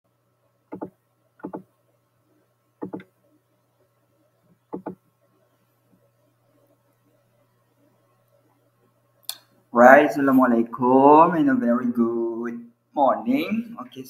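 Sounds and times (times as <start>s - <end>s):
faint low hum: 0.1s - 14.0s.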